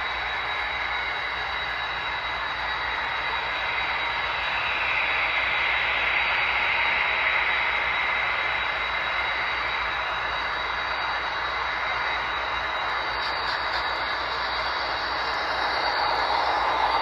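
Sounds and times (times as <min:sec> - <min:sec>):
model train whirring: 0:00.0 - 0:17.0
thin high whine: 0:00.0 - 0:17.0.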